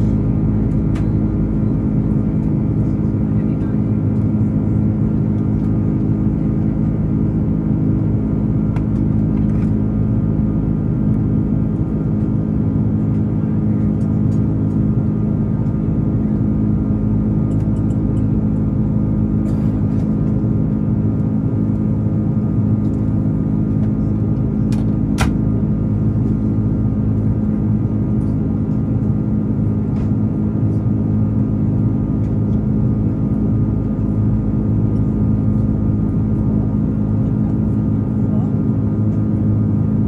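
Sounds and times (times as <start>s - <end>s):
airliner engines droning: 0.0s - 40.0s
constant hums: 0.0s - 40.0s.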